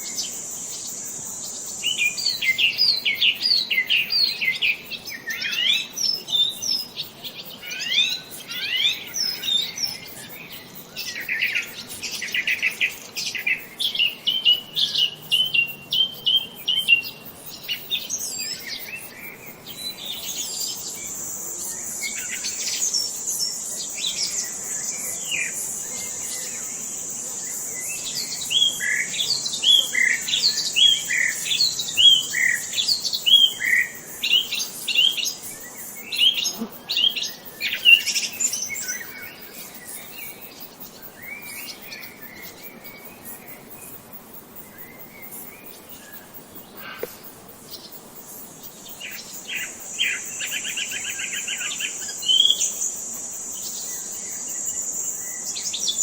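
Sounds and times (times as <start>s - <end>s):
high-pitched hissing buzz: 0.0s - 56.0s.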